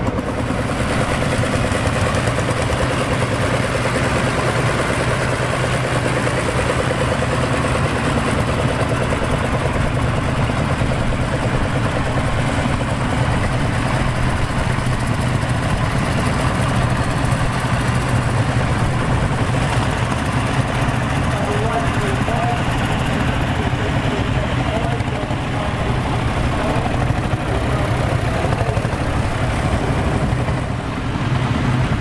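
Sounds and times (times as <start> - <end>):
tractor engines running low: 0.0 - 32.0.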